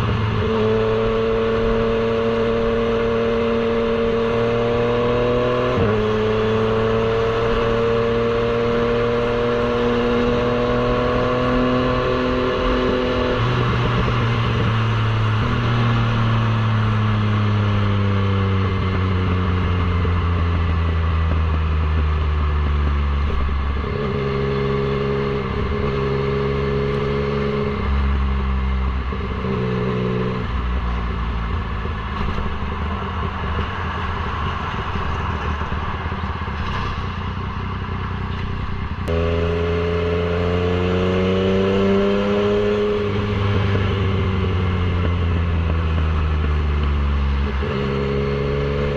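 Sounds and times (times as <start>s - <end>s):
motorcycle engine: 0.0s - 48.9s.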